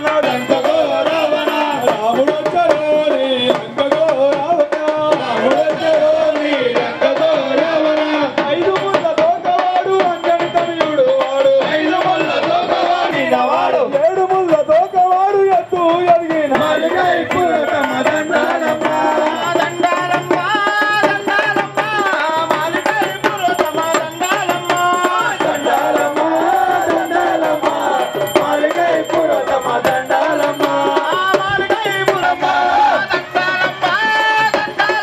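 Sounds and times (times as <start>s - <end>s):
drum and percussion beat: 0.0s - 35.0s
men singing through microphones: 0.0s - 35.0s.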